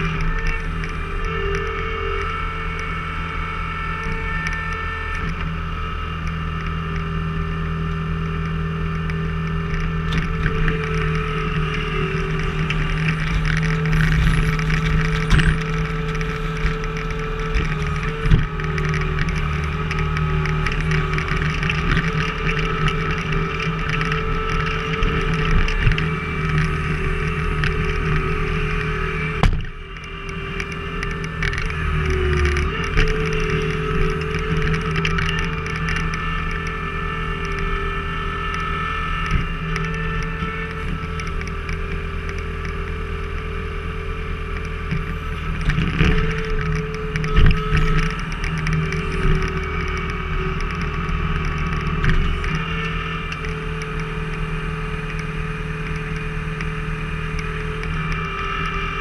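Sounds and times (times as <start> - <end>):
skid steer engine running: 0.0 - 59.0.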